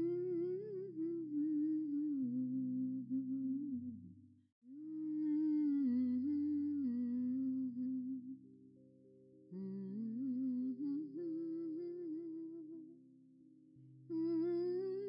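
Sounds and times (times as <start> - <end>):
slow wordless background music: 0.0 - 15.0.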